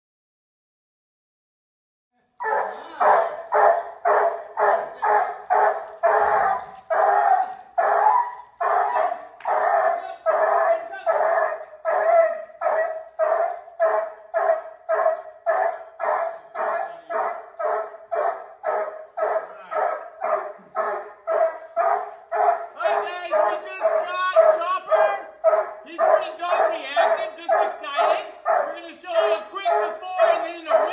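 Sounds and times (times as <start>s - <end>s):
hound barking: 2.4s - 30.9s.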